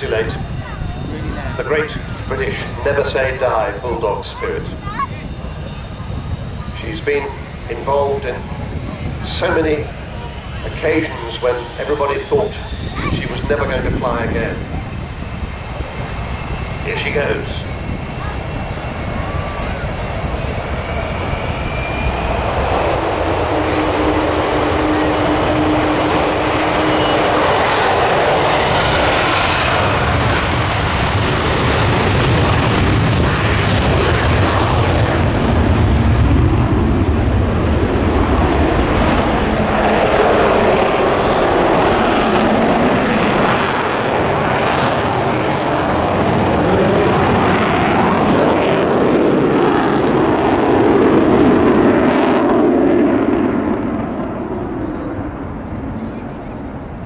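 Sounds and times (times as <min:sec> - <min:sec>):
jet aircraft rumble: 0:00.0 - 0:57.0.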